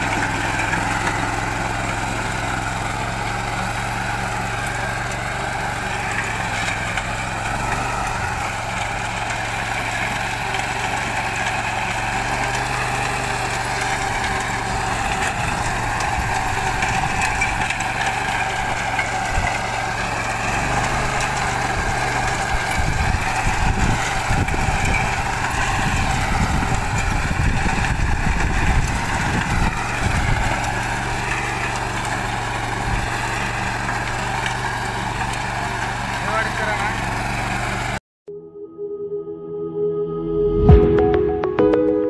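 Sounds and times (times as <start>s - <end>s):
rotary tiller churning soil: 0.0s - 38.0s
tractor engine running: 0.0s - 38.0s.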